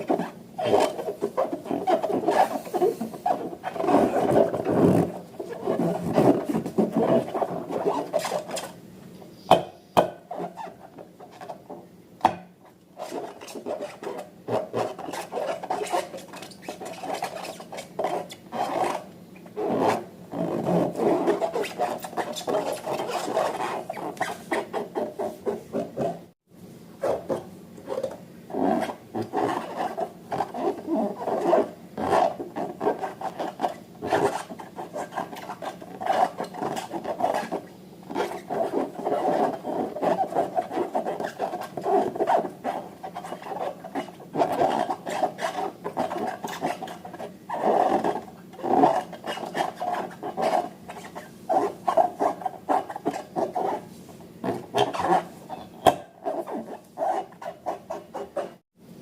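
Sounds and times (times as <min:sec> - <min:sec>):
rubber balloons rubbing and crackling: 0:00.0 - 0:08.8, 0:13.0 - 0:26.4, 0:27.0 - 0:58.6.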